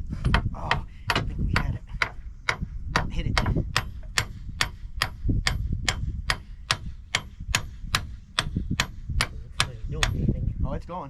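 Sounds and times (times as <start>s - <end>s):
hammer striking steel pin: 0.2s - 10.3s.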